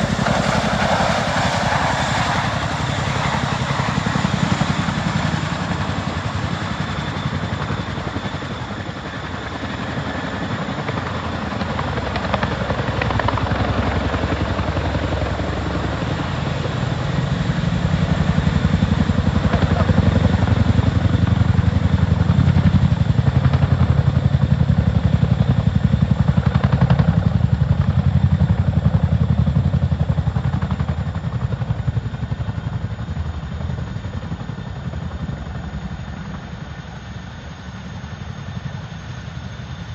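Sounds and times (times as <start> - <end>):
helicopter rotor blades chopping: 0.0 - 39.9.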